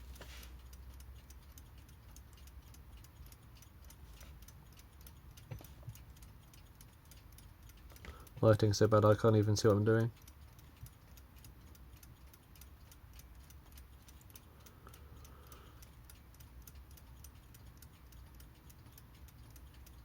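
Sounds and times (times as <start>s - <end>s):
alarm clock ticking faintly: 0.0s - 20.0s.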